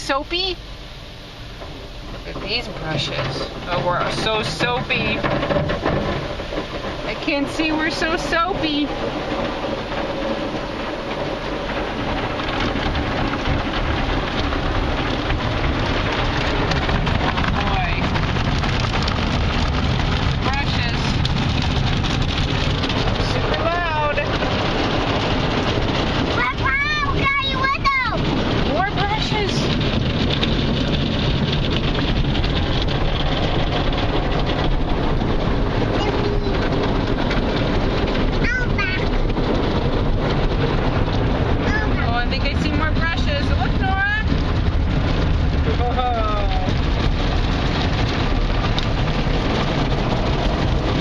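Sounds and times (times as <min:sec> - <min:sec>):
water spraying over glass: 0:01.2 - 0:51.0
car wash brushes scrubbing: 0:02.2 - 0:51.0.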